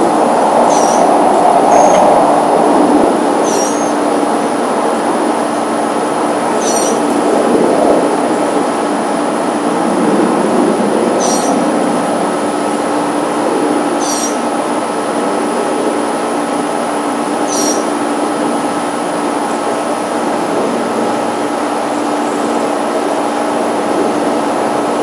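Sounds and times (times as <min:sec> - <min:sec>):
aircraft engine rushing overhead: 0:00.0 - 0:25.0
steady engine whine: 0:00.0 - 0:25.0.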